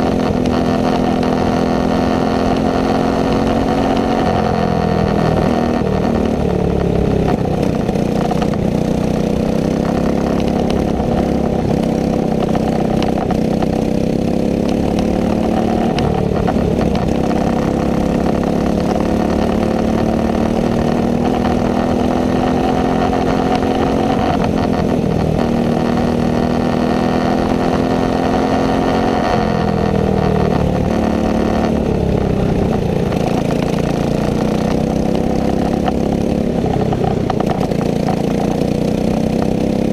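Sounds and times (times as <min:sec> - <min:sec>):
go-kart engine at high revs: 0:00.0 - 0:39.9.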